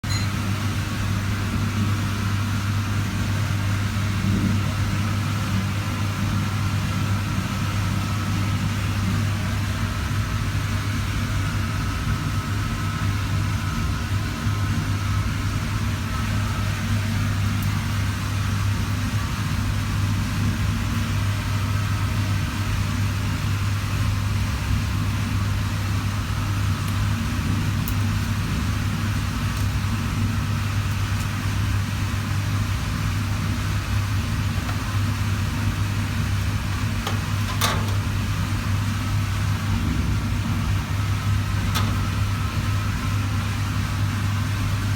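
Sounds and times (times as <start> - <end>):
refrigerator compressor humming: 0.0 - 44.9.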